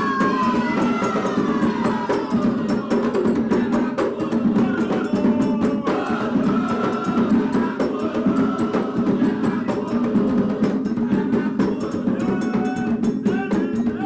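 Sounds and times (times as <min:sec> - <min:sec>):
hand drums playing fast rhythm: 0:00.0 - 0:14.0
sharp clicking percussion: 0:00.0 - 0:14.0.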